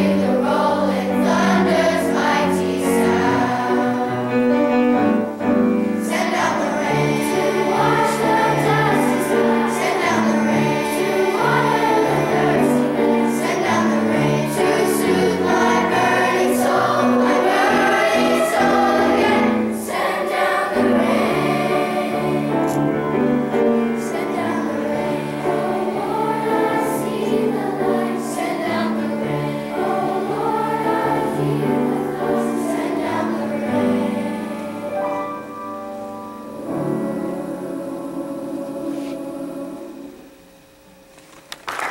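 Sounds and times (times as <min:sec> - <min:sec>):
children's choir singing: 0:00.0 - 0:40.6.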